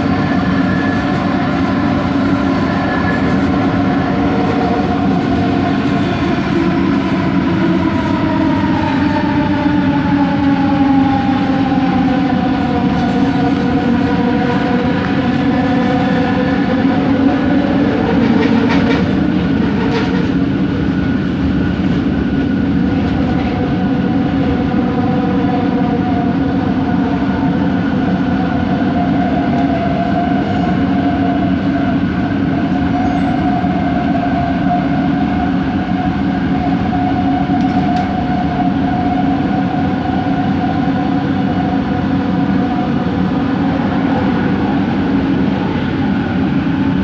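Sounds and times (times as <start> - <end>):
train rumble: 0.0 - 47.0.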